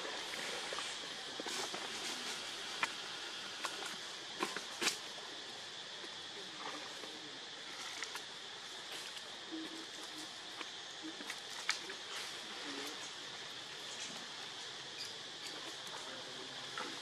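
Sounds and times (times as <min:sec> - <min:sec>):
monkeys moving on stone and leaves: 0:00.0 - 0:17.0
steady high hiss: 0:00.0 - 0:17.0.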